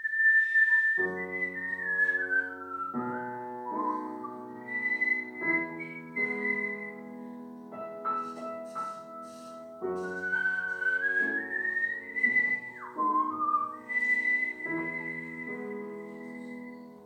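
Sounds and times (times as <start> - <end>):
whistled melody: 0.0 - 17.0
piano chords: 1.0 - 17.0.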